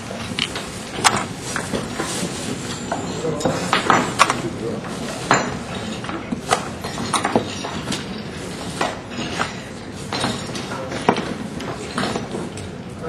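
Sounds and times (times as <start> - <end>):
room noise: 0.0 - 13.0.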